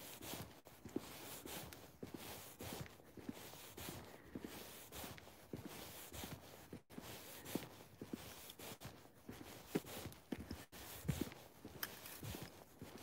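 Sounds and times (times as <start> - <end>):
footsteps on wet tarmac: 0.0 - 13.0.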